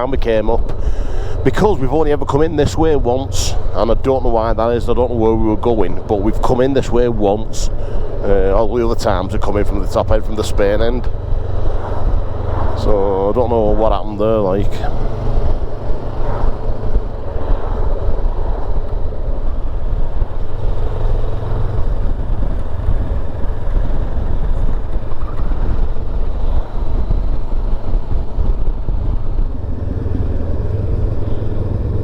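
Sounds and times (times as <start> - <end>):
wind noise: 0.0 - 32.0
motorcycle engine: 0.7 - 32.0.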